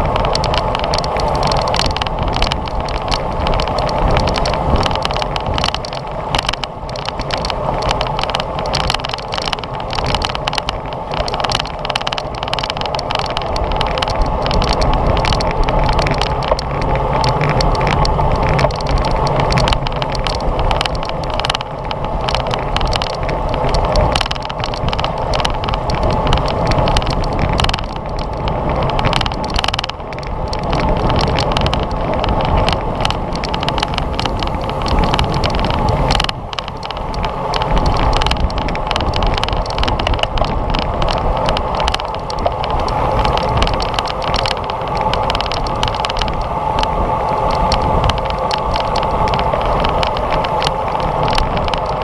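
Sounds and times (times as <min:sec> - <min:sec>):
bicycle rattles and knocks: 0:00.0 - 0:52.0
wind on microphone: 0:00.0 - 0:52.0.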